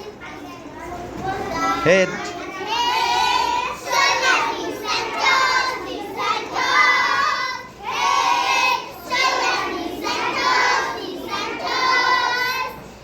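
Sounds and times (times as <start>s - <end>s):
young children singing: 0.0s - 13.0s.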